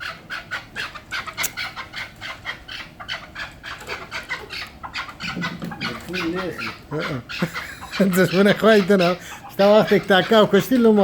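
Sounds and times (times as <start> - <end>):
partridge clucking call: 0.0 - 11.0.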